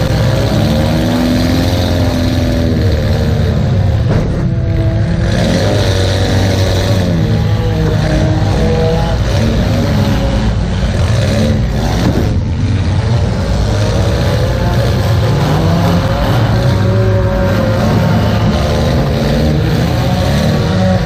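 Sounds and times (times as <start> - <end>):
car engine revving loudly: 0.0 - 21.0.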